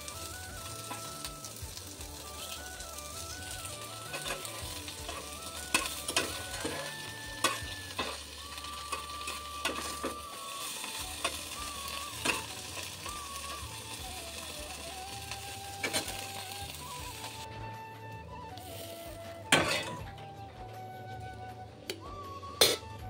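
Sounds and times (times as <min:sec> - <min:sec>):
fish sizzling in hot oil: 0:00.0 - 0:17.5, 0:18.1 - 0:20.2.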